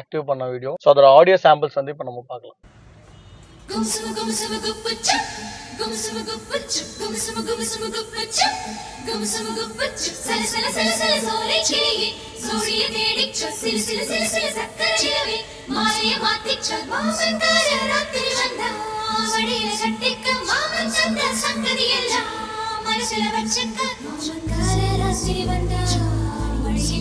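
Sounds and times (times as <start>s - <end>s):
film song through car speakers: 2.7s - 27.0s.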